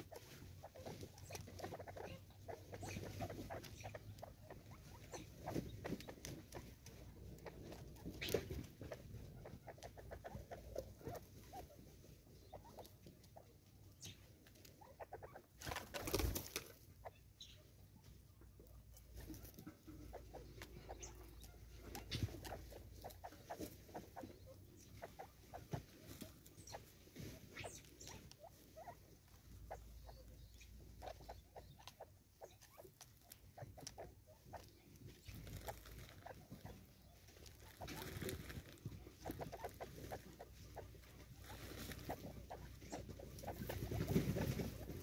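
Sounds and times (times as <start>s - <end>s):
birds pecking on wood: 0.0s - 45.0s
rustling: 0.0s - 45.0s.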